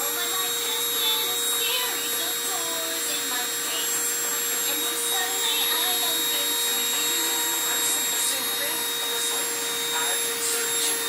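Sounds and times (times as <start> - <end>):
rotary drill motor whine: 0.0 - 11.0.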